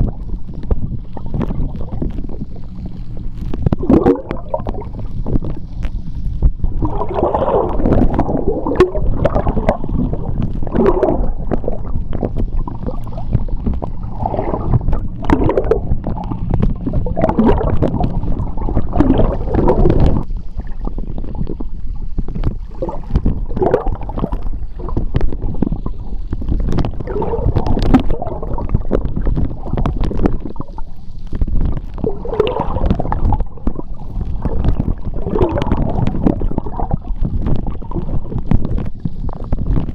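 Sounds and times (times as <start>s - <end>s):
bubbly gurgling: 0.0s - 39.9s
underwater surge of moving water: 0.0s - 39.9s.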